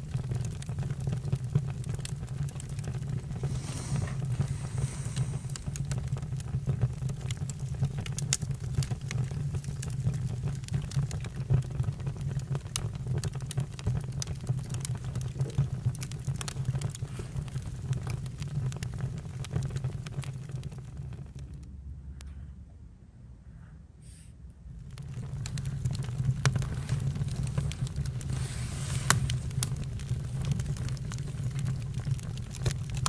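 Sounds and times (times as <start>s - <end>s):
campfire crackling and popping: 0.0s - 21.7s, 24.7s - 33.0s.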